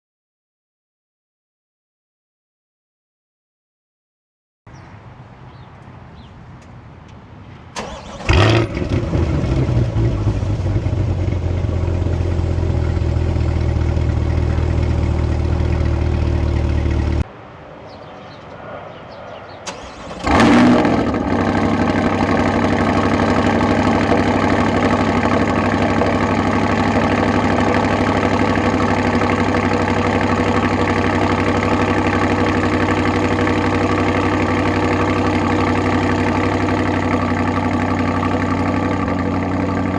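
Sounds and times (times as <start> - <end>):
car engine starting and idling: 4.7 - 18.4, 19.4 - 39.9.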